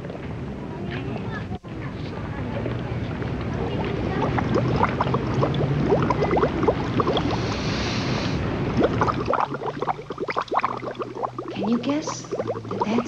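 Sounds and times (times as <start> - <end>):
water bubbling and gurgling: 2.5 - 13.0.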